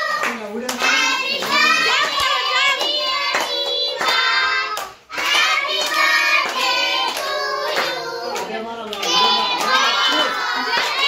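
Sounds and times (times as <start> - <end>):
children singing: 0.0 - 8.4, 9.0 - 11.0
hand claps: 0.2 - 11.0.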